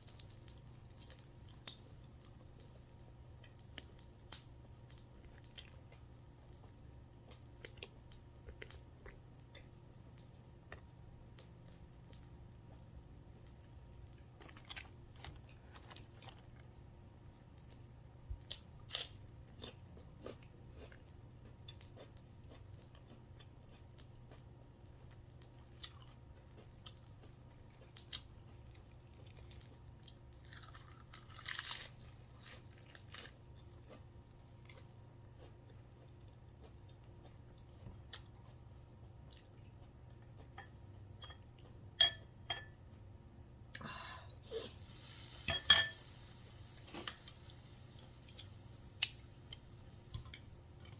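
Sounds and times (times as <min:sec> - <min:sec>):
person chewing crunchy food: 0:00.0 - 0:09.9, 0:10.6 - 0:16.9, 0:17.5 - 0:41.8, 0:44.6 - 0:50.9
faint steady hum: 0:00.0 - 0:50.9.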